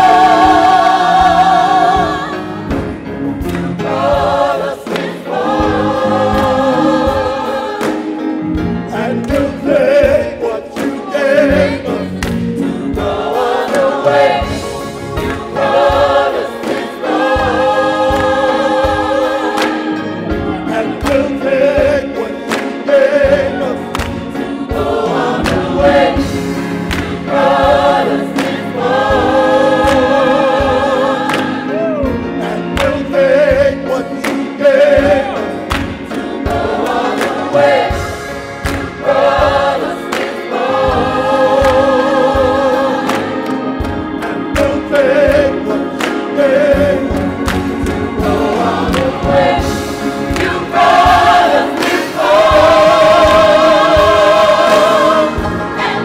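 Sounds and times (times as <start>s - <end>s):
choir singing in harmony: 0.0s - 56.0s
instruments with steady beat: 0.0s - 56.0s.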